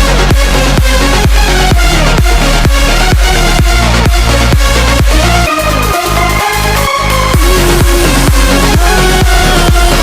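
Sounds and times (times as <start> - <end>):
steady kick drum beat: 0.0 - 6.2, 7.3 - 10.0
electronic dance music: 0.0 - 10.0.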